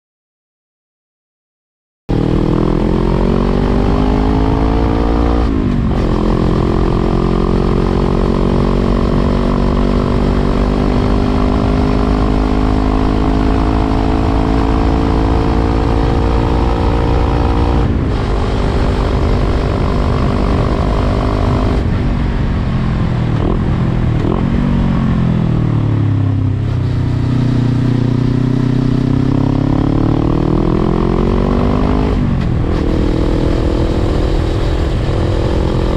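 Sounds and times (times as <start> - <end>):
motorcycle exhaust note: 2.1 - 35.9.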